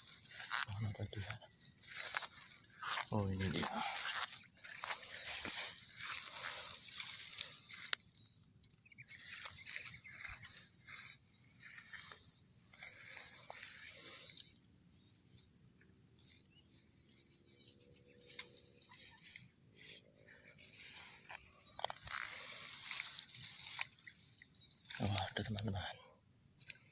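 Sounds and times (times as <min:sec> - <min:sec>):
insects chirping chorus: 0:00.0 - 0:26.9.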